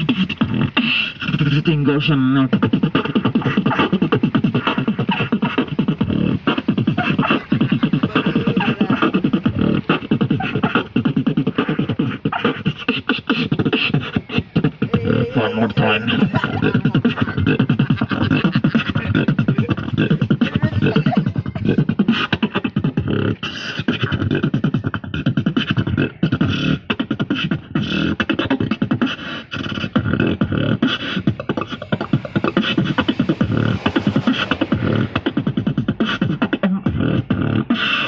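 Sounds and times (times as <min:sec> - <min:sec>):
person beatboxing: 0:00.0 - 0:38.0.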